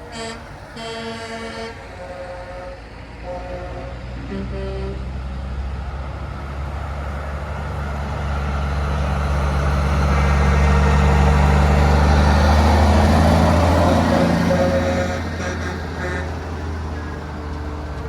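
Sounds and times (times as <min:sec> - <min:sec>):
heavy truck engine passing: 0:00.0 - 0:18.0
road noise: 0:00.0 - 0:18.0.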